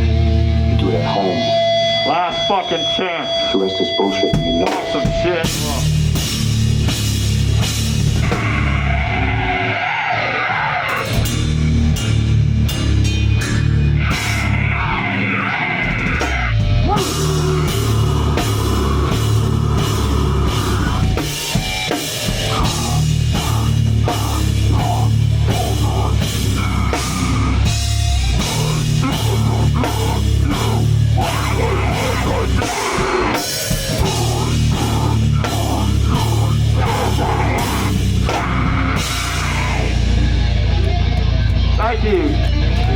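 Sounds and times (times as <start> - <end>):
heavy rock band playing: 0.0 - 42.9.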